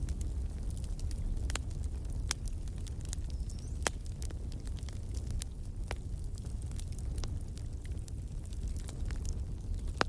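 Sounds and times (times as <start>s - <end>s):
low rumble of flames: 0.0s - 10.0s
wood fire crackling and popping: 0.0s - 10.0s.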